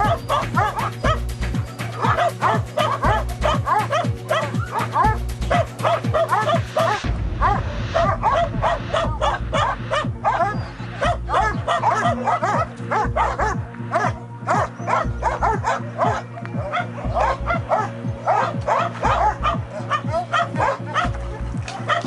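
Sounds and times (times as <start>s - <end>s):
dogs barking and yelping: 0.0s - 22.0s.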